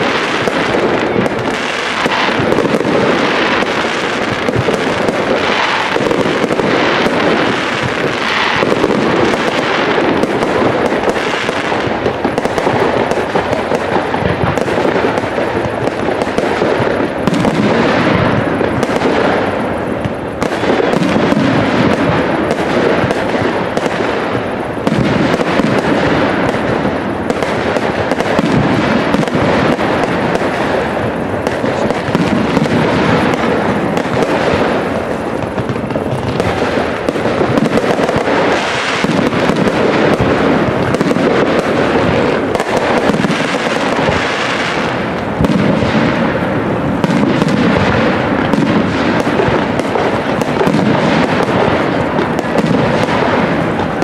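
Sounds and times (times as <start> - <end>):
firework crackling: 0.0 - 54.0.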